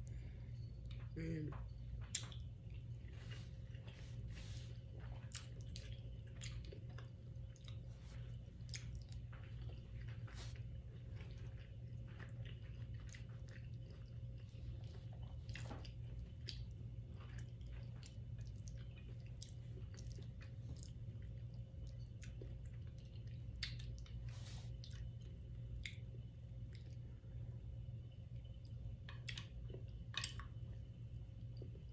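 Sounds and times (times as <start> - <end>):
low hum: 0.0 - 31.9
person chewing soft food: 0.0 - 31.9.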